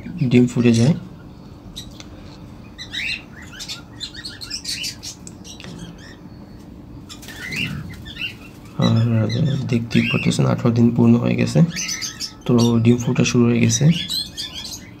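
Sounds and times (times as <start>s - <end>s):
cage birds chirping: 0.0s - 15.0s
low steady hum: 0.0s - 15.0s.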